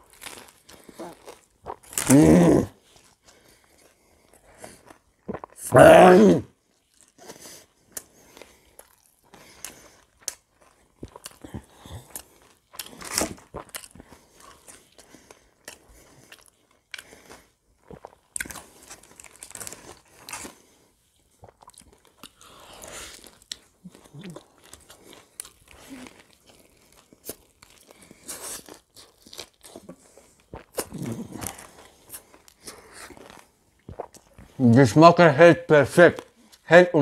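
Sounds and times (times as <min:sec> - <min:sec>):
chewing crispy fried chicken: 0:00.0 - 0:34.8.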